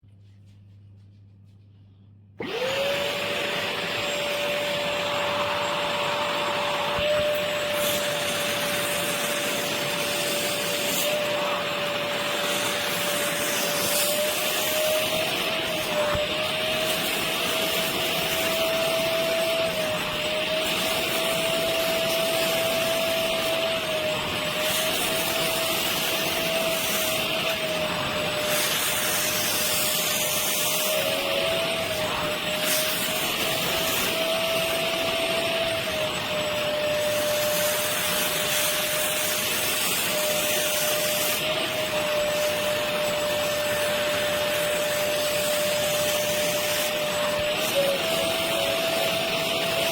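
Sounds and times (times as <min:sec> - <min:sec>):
vacuum cleaner motor whine: 0:02.4 - 0:49.9.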